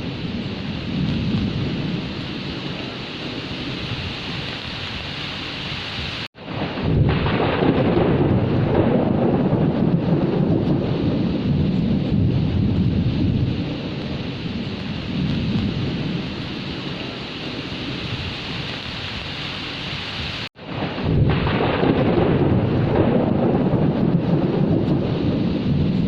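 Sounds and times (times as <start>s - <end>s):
low rumbling thunder: 0.0s - 5.1s, 6.3s - 19.5s, 20.2s - 26.0s
heavy rain: 0.0s - 26.0s.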